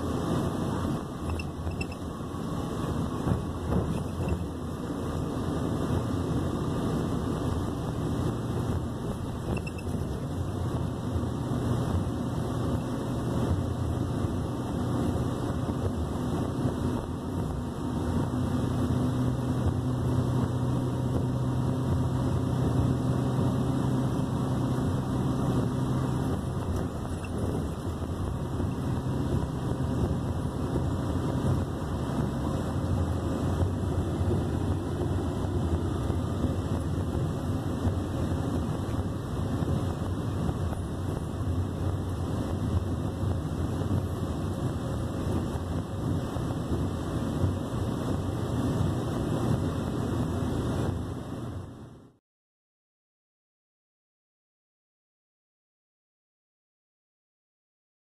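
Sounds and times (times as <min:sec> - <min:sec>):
bus engine running: 0:00.0 - 0:52.2
road noise: 0:00.0 - 0:52.2.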